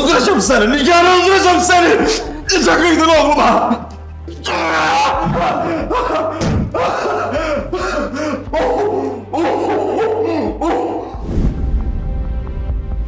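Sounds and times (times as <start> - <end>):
people shouting and crying out: 0.0 - 11.2.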